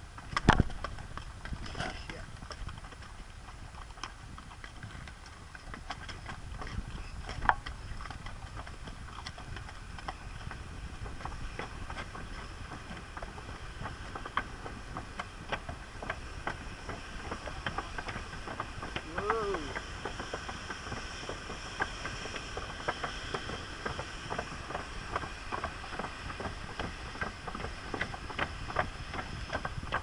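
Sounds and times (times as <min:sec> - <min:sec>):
horse hooves clopping: 0:00.0 - 0:30.0
low steady rumble: 0:00.0 - 0:30.0.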